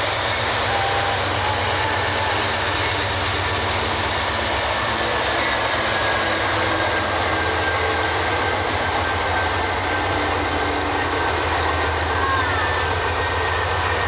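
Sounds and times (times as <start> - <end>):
diesel locomotive engine throbbing: 0.0 - 14.0.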